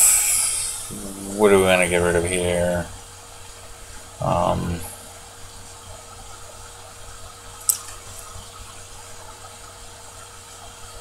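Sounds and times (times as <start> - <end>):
background hiss: 0.0 - 11.0
faint electrical hum: 0.0 - 11.0.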